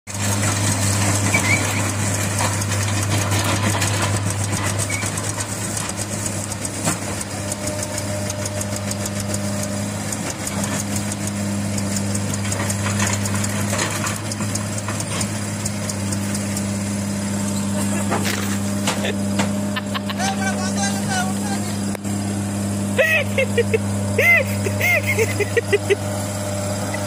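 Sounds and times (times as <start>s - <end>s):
tractor diesel engine droning: 0.1s - 27.0s.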